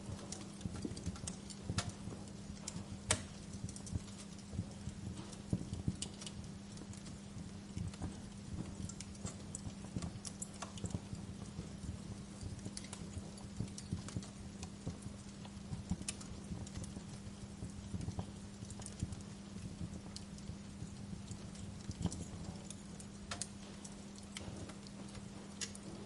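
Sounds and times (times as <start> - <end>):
steady low hum: 0.0 - 26.0
wood fire crackling and popping: 0.0 - 26.0.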